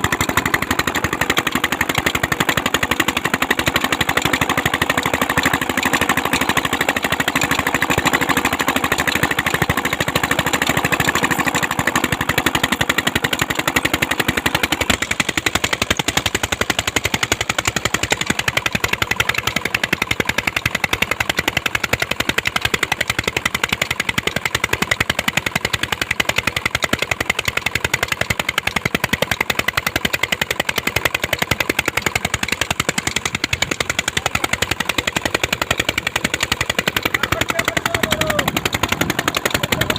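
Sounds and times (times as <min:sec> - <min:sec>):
diesel engine exhaust thumps: 0:00.0 - 0:39.9.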